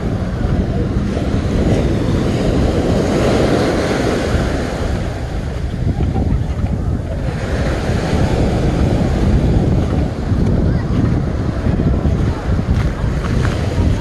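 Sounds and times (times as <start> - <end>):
small waves breaking on sand: 0.0 - 14.0
wind buffeting microphone: 0.0 - 14.0.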